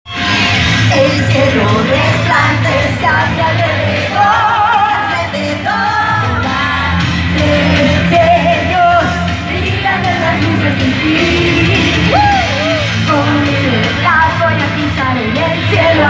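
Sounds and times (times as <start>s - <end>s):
pop-rock backing track: 0.1s - 16.0s
woman singing with vibrato: 0.9s - 16.0s.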